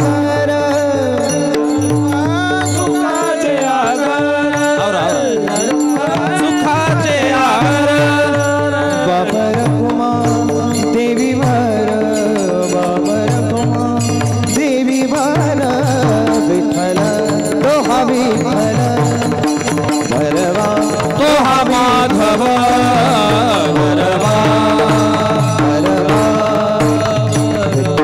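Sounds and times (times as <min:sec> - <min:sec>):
drum beat: 0:00.0 - 0:28.0
person singing devotional melody: 0:00.0 - 0:28.0.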